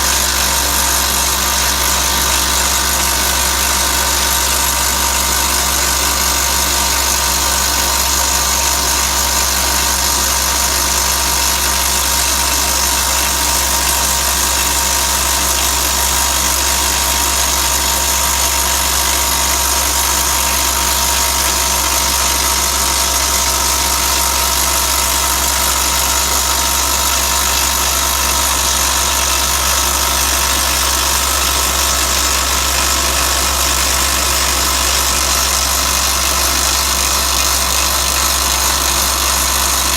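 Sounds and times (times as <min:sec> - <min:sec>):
drill rig running: 0:00.0 - 0:39.9.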